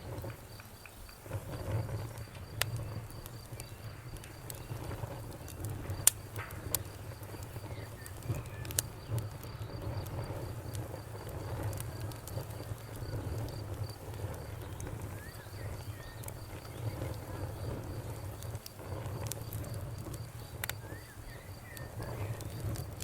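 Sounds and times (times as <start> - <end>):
fire crackling: 0.0 - 23.0
sharp pops of fire: 0.0 - 23.0.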